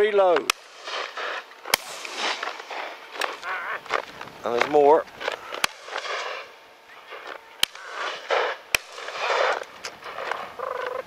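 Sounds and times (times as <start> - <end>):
shotgun shots: 0.3 - 10.4.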